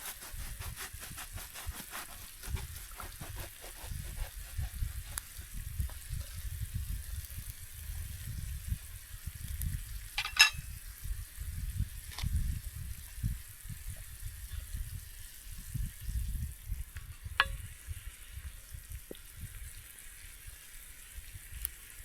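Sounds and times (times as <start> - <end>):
wind on microphone: 0.0 - 21.8
food frying sizzle: 2.9 - 22.0.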